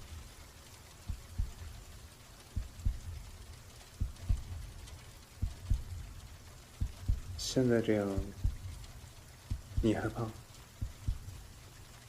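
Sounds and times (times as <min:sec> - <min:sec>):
heartbeat thumps: 0:01.0 - 0:10.2, 0:10.8 - 0:11.6.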